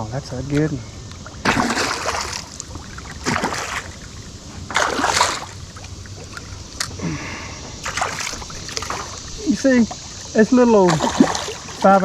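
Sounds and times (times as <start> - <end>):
fish splashing at the surface: 1.2 - 12.0.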